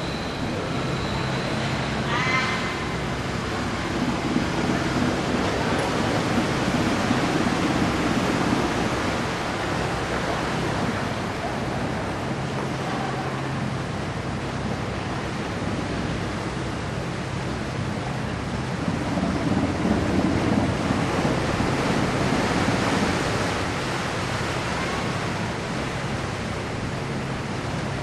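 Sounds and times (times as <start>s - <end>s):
diesel engines humming: 0.0s - 28.0s
propellers churning water: 0.0s - 28.0s.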